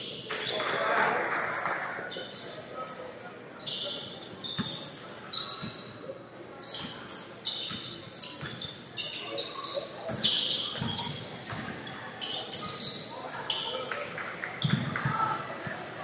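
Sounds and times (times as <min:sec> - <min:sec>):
sneakers squeaking on court: 0:01.5 - 0:16.0.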